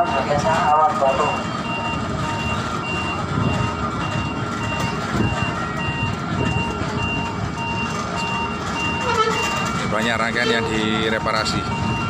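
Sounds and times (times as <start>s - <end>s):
high and low warning beeps: 0.0s - 12.0s
low running rumble: 0.0s - 12.0s.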